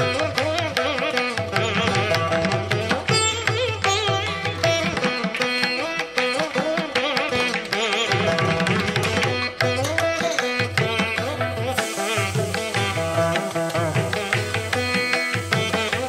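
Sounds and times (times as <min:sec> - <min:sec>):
hand drums: 0:00.0 - 0:16.0
plucked string melody: 0:00.0 - 0:16.0.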